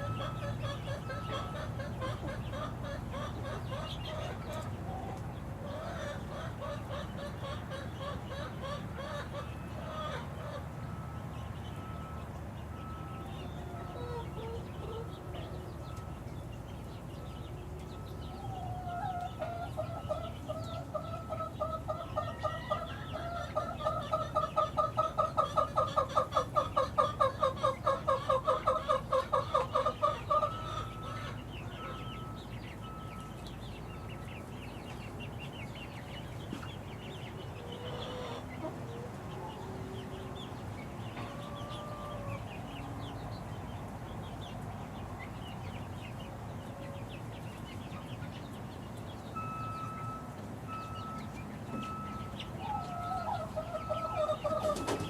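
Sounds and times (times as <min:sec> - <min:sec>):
chickens calling rapidly: 0:00.0 - 0:55.0
chickens clucking: 0:00.0 - 0:55.0
chicks peeping: 0:00.0 - 0:55.0.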